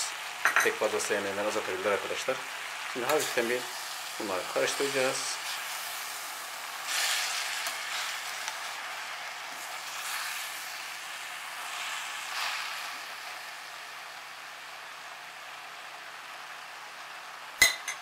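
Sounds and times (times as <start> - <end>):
greens sizzling in a pot: 0.0 - 18.0.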